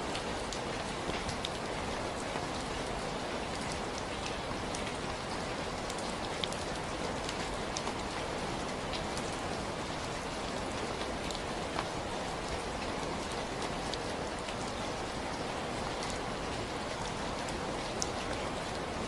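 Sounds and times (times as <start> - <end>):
raindrops ticking on a surface: 0.0 - 19.0.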